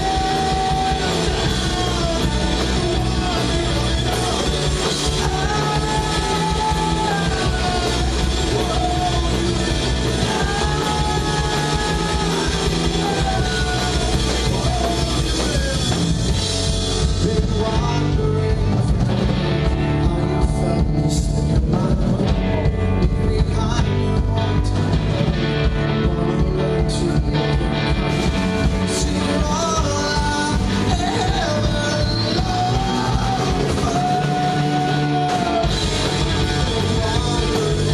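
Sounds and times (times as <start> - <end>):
live rock band playing: 0.0 - 37.9
person singing: 0.0 - 37.9.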